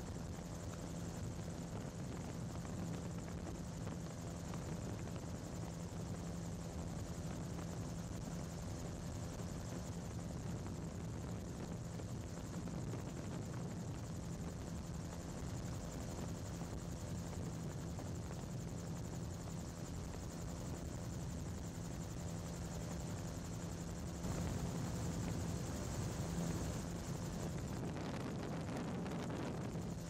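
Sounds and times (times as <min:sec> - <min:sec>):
engine and propeller drone: 0:00.0 - 0:30.0.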